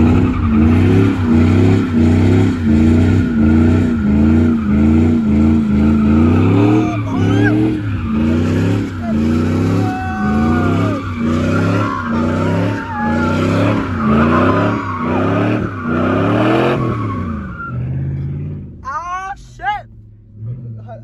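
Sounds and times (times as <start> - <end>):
tyres squealing on asphalt: 0.0 - 18.5
truck engine revving: 0.0 - 18.8.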